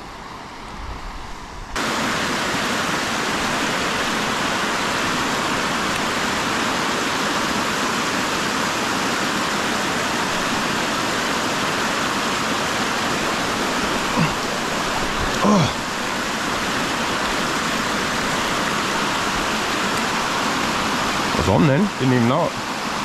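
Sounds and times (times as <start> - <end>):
fast-flowing water rushing: 0.0 - 23.0.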